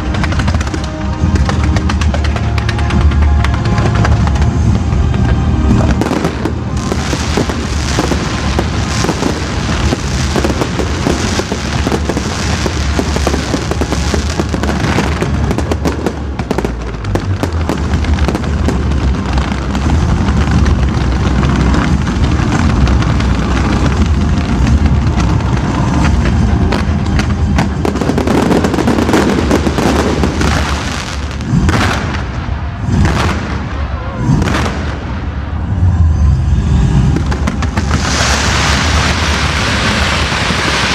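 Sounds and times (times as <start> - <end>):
fireworks bursts and bangs: 0.0 - 40.9
heavy low rumble: 0.0 - 40.9
music: 0.0 - 40.9.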